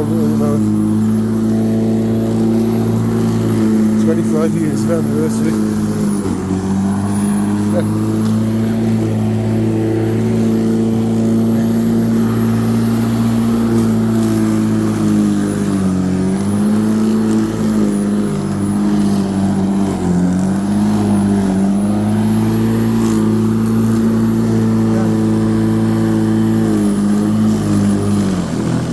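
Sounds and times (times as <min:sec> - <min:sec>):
lawnmower running: 0:00.0 - 0:28.9.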